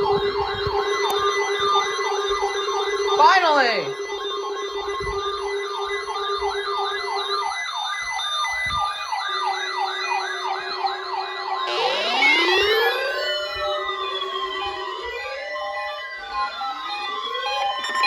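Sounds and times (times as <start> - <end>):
electronic siren yelp: 0.0 - 18.0
siren wails rising and falling: 0.0 - 18.0.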